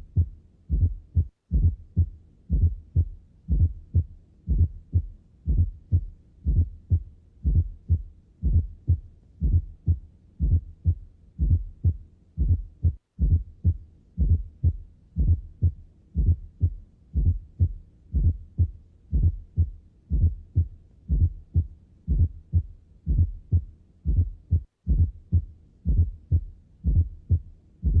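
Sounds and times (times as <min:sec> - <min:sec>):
heartbeat thuds: 0:00.0 - 0:28.0.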